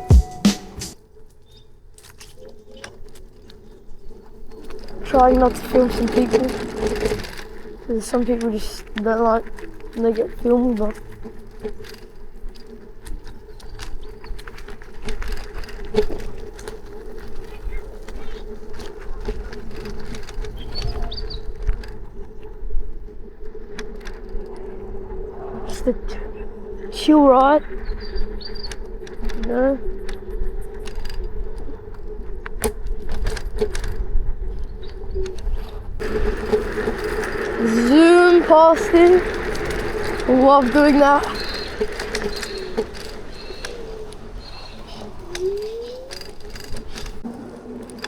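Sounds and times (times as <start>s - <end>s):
rattles and clicks from bumps: 0.8s - 48.0s
electric scooter motor hum: 0.9s - 48.0s
wind and wheel rumble: 1.0s - 48.0s.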